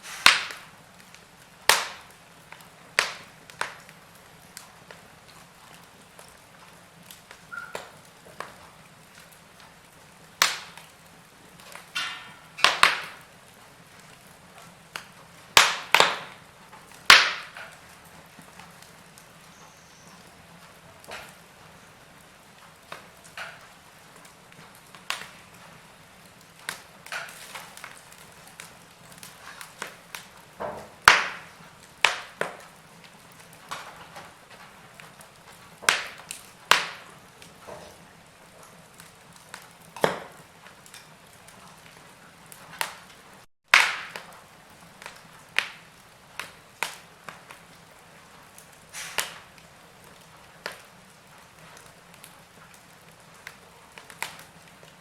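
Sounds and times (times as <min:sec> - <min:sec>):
low steady hiss: 0:00.0 - 0:55.0
wood fire crackling and popping: 0:00.0 - 0:55.0.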